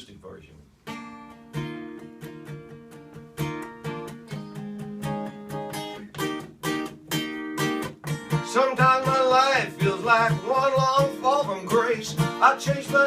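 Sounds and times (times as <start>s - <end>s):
acoustic guitar strumming: 0.8s - 13.0s.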